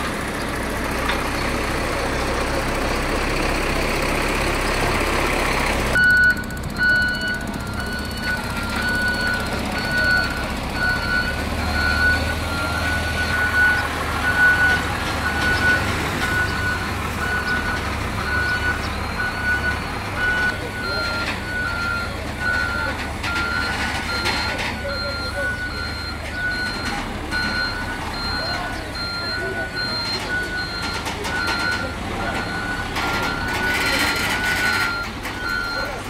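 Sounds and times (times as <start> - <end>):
diesel engine rumble: 0.0 - 36.0
reversing alarm beeping: 6.0 - 36.0.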